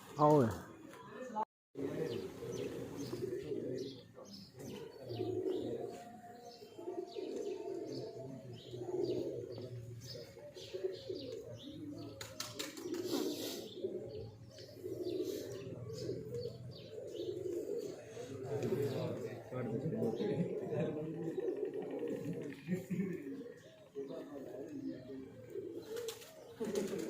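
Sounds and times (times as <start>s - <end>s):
small birds chirping: 0.2s - 27.0s
pigeons cooing: 1.8s - 27.0s.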